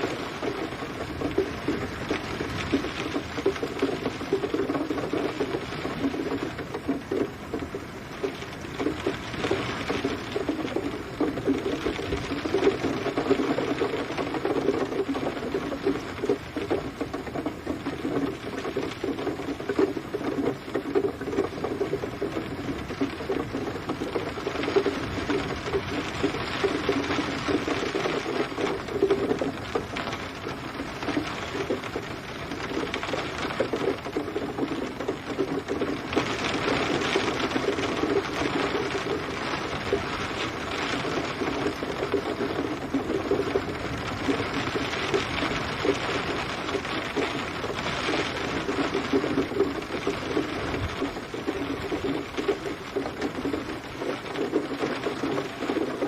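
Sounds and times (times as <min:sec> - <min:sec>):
steady rain pattering: 0:00.0 - 0:56.0.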